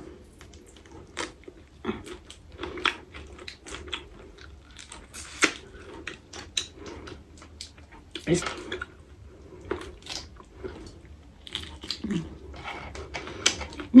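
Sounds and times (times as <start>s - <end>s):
close chewing and mouth smacks: 0.0s - 14.0s.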